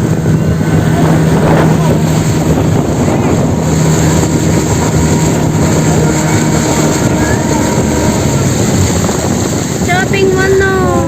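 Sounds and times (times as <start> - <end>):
low hum: 0.0 - 11.0
motorboat engine running: 0.0 - 11.0.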